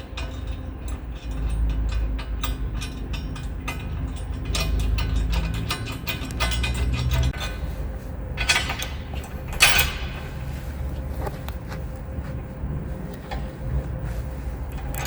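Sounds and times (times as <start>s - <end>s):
metal parts clanking and scraping: 0.0s - 15.0s.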